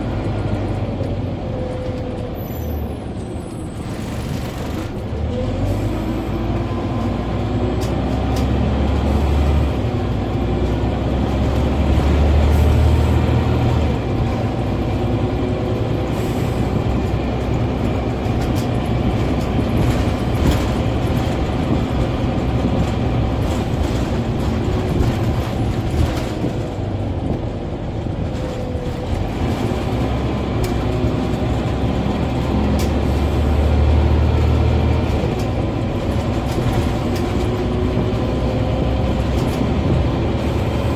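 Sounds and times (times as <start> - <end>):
bus diesel engine rumble: 0.0 - 40.9
road noise: 0.0 - 40.9.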